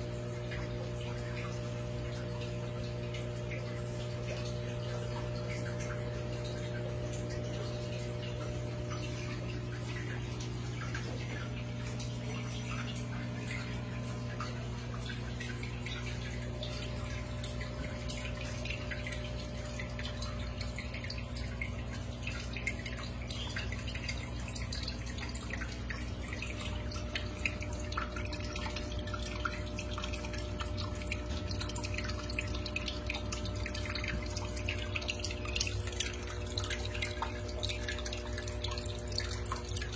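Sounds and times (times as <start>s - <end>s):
steady low hum: 0.0s - 39.9s
water dripping and trickling: 0.0s - 39.9s.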